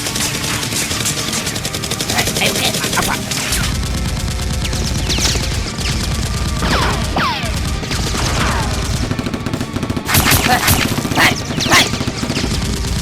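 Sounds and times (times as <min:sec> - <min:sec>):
rapid automatic gunfire: 0:00.0 - 0:13.0.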